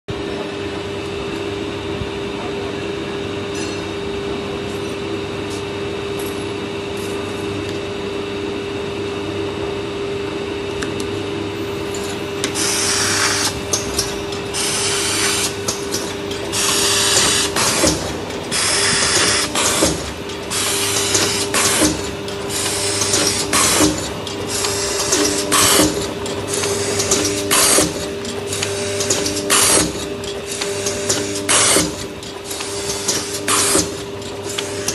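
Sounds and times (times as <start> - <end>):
machine humming: 0.1 - 34.9.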